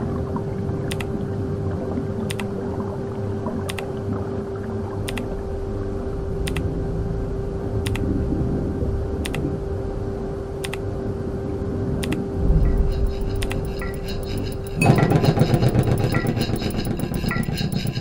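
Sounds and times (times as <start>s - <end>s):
washing machines rumbling and humming: 0.0s - 18.0s.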